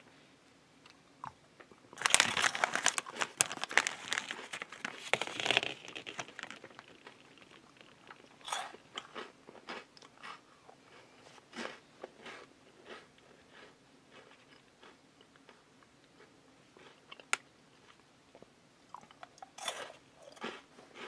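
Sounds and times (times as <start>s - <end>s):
crunching and chewing: 0.8s - 21.0s.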